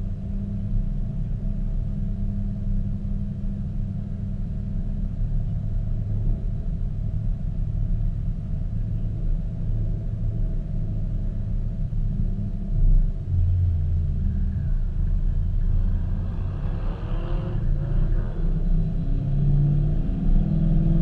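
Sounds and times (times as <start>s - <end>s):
sports car engine droning: 0.0s - 21.0s
wind rumbling on microphone: 0.0s - 21.0s.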